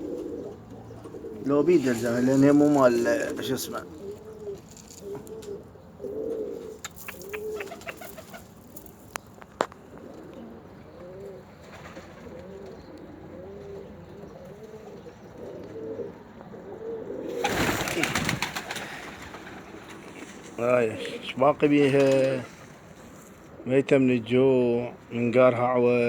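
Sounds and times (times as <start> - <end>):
pigeons cooing: 0.0 - 23.8.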